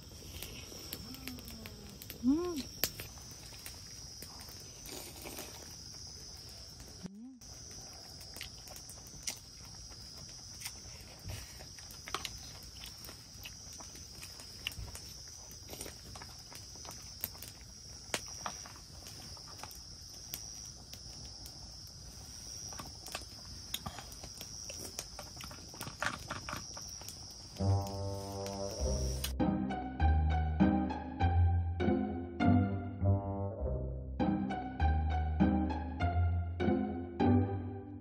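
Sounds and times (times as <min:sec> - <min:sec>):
crickets chirring: 0:00.0 - 0:32.7.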